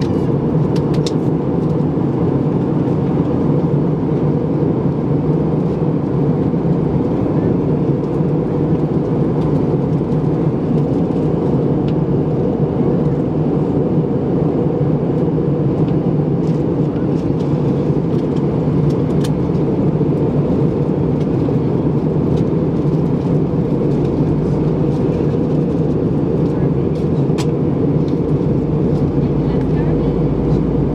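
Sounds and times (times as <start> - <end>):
airplane cabin engine rumble: 0.0 - 30.9.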